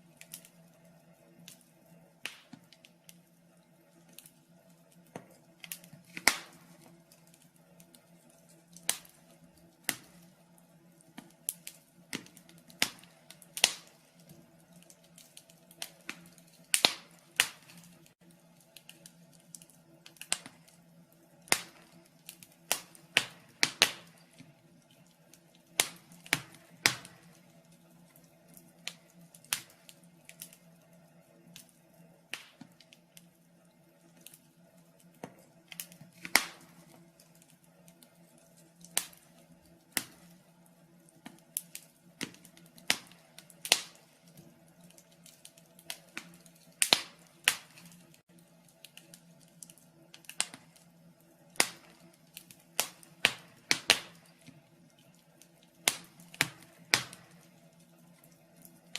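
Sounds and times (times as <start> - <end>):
faint steady hum: 0.0 - 58.9
wood fire crackling: 0.0 - 58.9.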